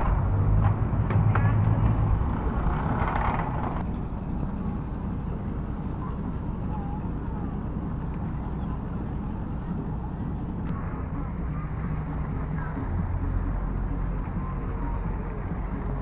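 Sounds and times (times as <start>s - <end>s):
motorboat engine humming: 0.0s - 16.0s
rush of noise: 0.0s - 16.0s.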